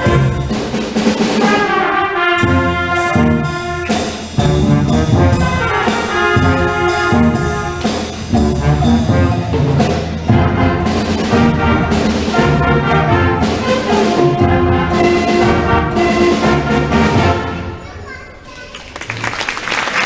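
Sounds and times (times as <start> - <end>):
steady drum beat: 0.0 - 17.6
brass chords: 0.0 - 17.8.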